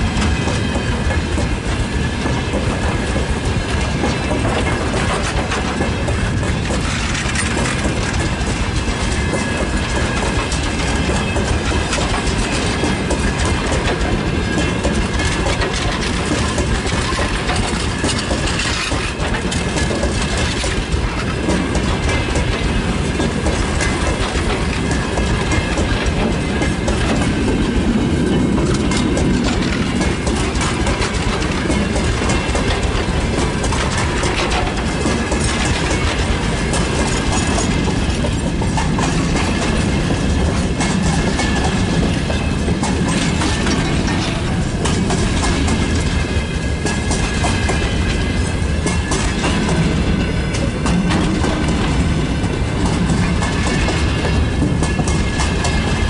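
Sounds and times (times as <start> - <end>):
freight train rumble: 0.0 - 56.0
wheels clacking over rail joints: 0.0 - 56.0.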